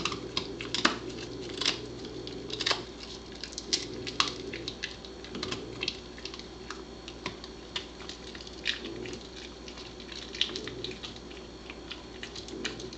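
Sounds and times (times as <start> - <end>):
dog gnawing bone: 0.0 - 12.9.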